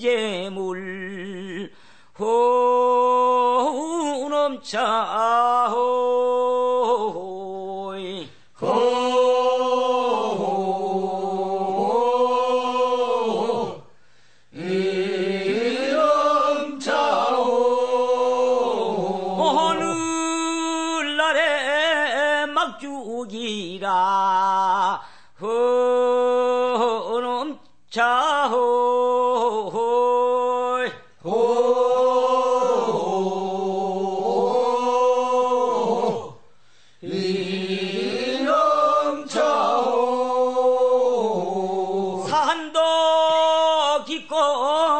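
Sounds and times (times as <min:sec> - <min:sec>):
slow chanted singing: 0:00.0 - 0:44.9.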